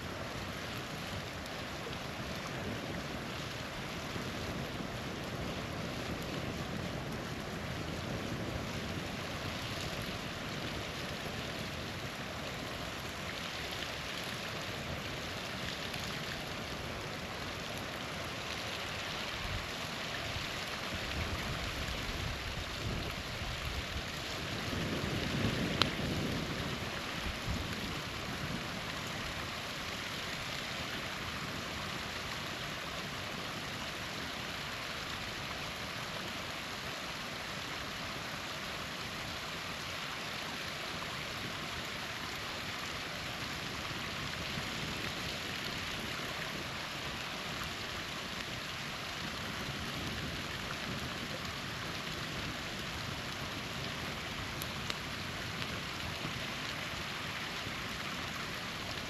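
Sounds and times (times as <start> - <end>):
campfire crack: 0.0 - 59.0
small waterfall rushing: 0.0 - 59.0
wind rumble on microphone: 0.0 - 59.0.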